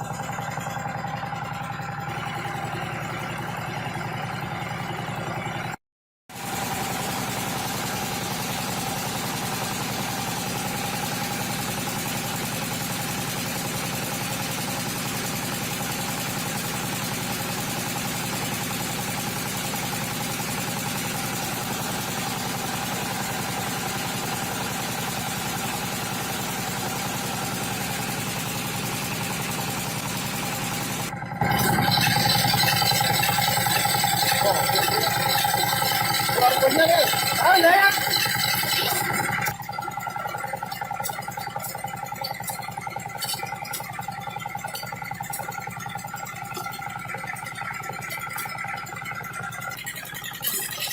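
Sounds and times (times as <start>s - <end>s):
engine idling: 0.0s - 50.9s.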